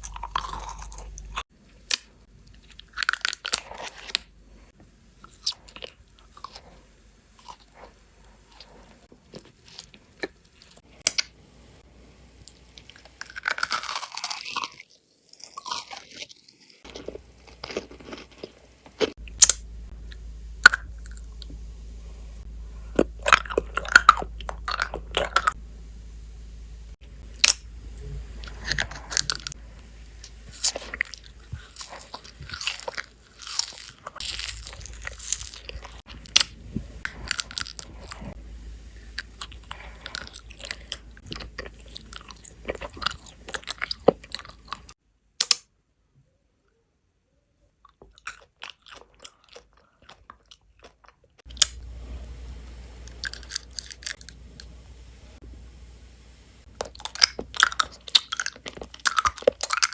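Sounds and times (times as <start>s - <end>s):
candy crunching and chewing: 0.0s - 4.4s, 5.1s - 11.4s, 12.4s - 21.6s, 22.8s - 25.6s, 28.3s - 45.5s, 47.8s - 54.8s, 56.7s - 59.9s.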